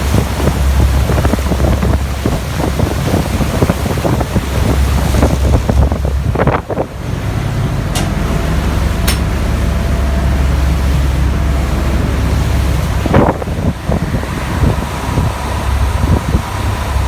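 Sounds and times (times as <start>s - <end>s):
boat motor rumble: 0.0s - 17.0s
wind buffeting microphone: 0.0s - 17.0s.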